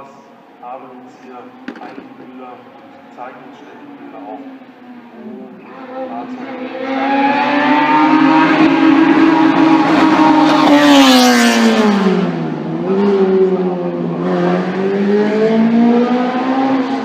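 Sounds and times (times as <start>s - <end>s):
racing car engine passing: 1.0s - 17.0s.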